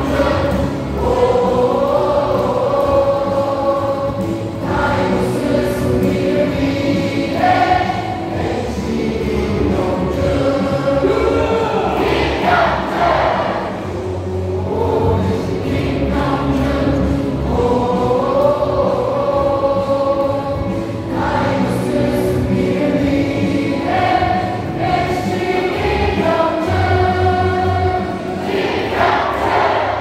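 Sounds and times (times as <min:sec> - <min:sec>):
amplified backing music: 0:00.0 - 0:30.0
crowd singing a cheer song: 0:00.0 - 0:30.0.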